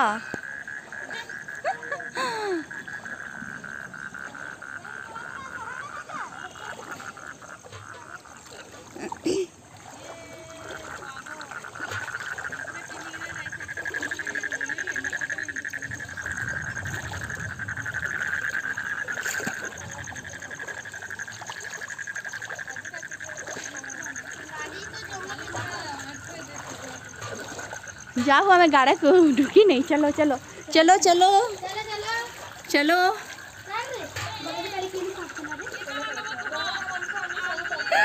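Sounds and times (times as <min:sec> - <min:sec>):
frogs trilling: 0:00.0 - 0:38.0.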